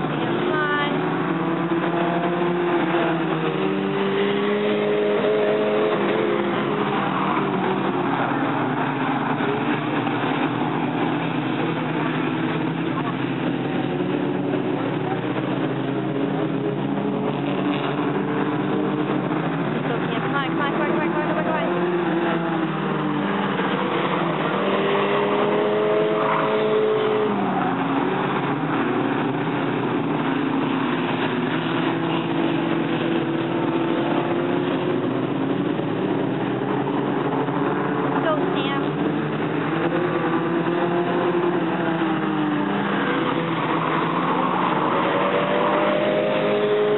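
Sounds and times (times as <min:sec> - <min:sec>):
stock car engines racing: 0:00.0 - 0:46.9.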